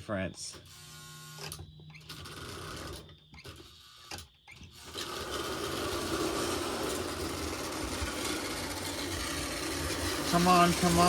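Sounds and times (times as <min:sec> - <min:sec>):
toy train motor whirring: 0:00.7 - 0:11.0.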